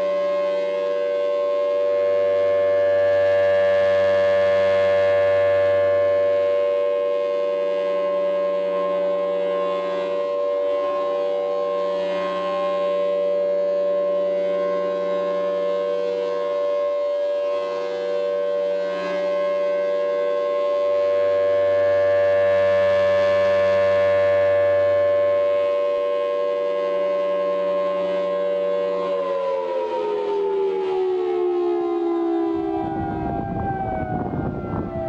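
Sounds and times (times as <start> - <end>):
warning siren steady tone: 0.0 - 35.0.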